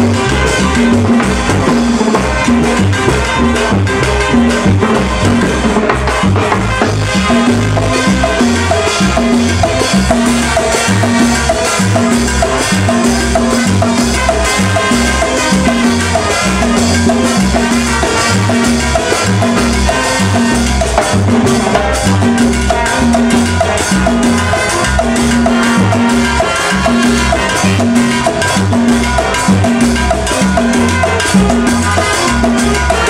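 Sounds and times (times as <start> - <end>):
brass band playing dance music: 0.0 - 33.0
congas: 0.0 - 33.0
drum kit: 0.0 - 33.0
electric bass guitar: 0.0 - 33.0.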